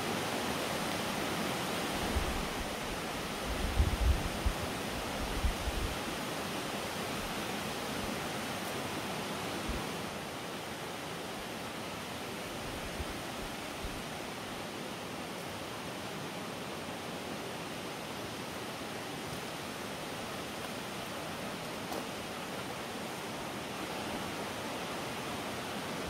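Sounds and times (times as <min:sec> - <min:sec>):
rushing outdoor background noise: 0:00.0 - 0:26.0.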